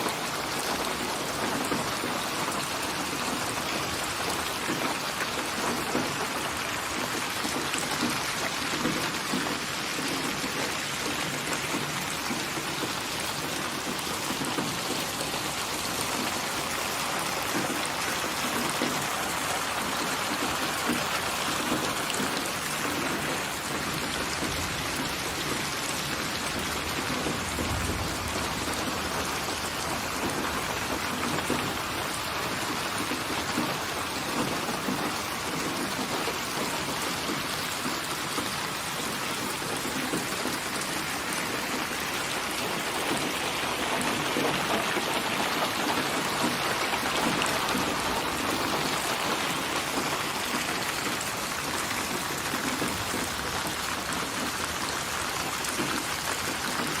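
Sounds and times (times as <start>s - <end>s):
rain falling on surfaces: 0.0s - 57.0s.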